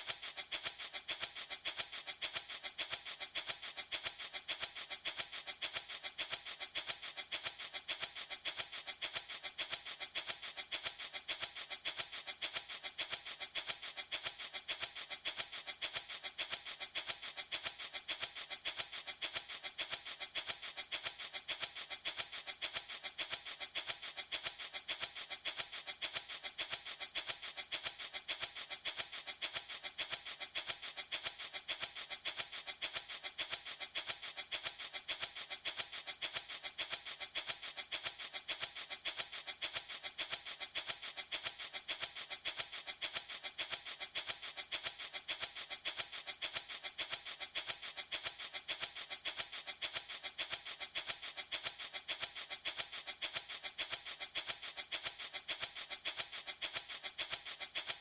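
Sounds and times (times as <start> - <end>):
wooden baby rattle shaken: 0.0 - 58.0.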